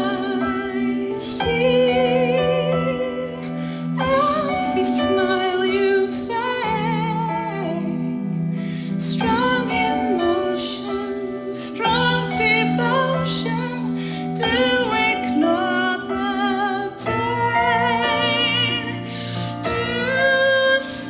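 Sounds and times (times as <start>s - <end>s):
woman singing a ballad: 0.0s - 21.0s.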